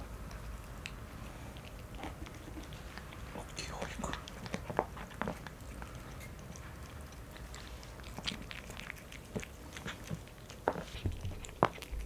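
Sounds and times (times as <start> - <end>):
cat crunching a treat: 0.0 - 12.0.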